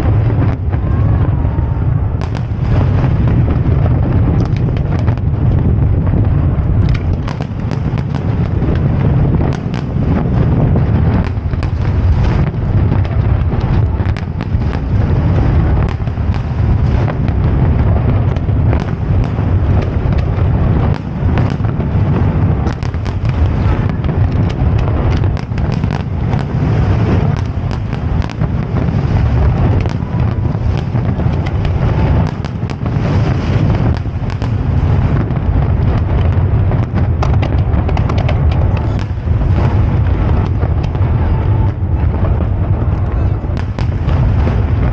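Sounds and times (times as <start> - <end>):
fireworks bursting and crackling: 0.0 - 44.9
low rumble: 0.0 - 44.9.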